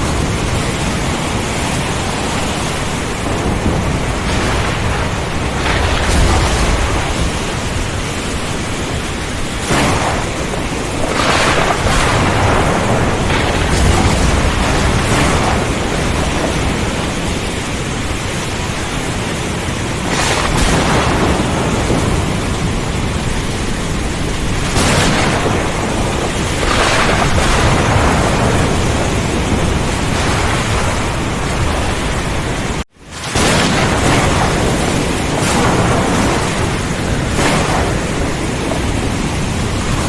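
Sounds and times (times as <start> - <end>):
heavy rain: 0.0 - 40.0
low thunder rumble: 0.0 - 40.0
wind hiss: 0.0 - 40.0.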